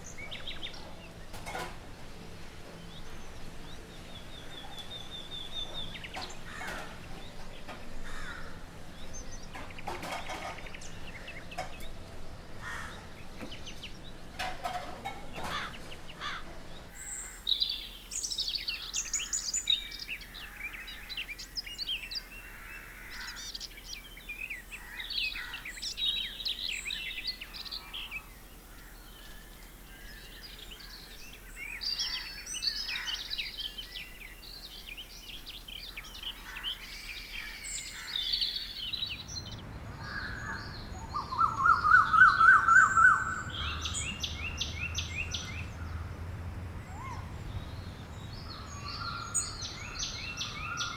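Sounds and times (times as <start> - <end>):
songbirds chirping: 0.0 - 50.9.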